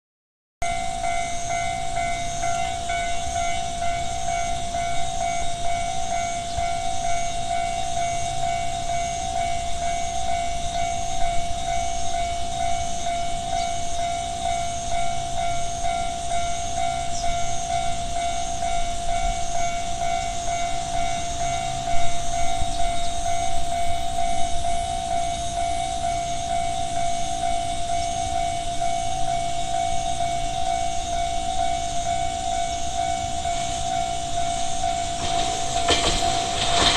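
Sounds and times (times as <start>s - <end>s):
level crossing warning bell: 0.6s - 36.9s.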